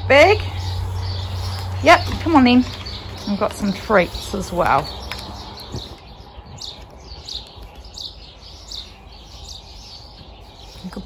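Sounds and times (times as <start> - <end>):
low background rumble: 0.0 - 9.3
small bird chirping: 0.0 - 11.0.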